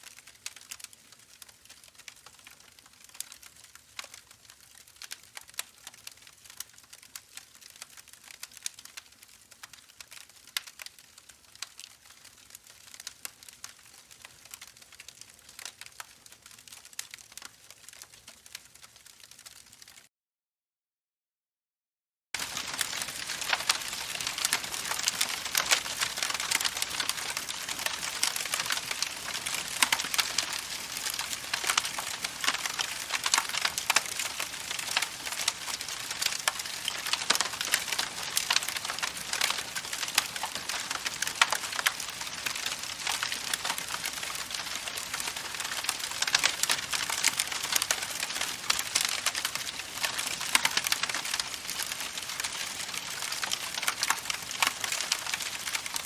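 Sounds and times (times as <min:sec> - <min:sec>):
campfire crackling: 0:00.0 - 0:20.0, 0:22.4 - 0:56.0.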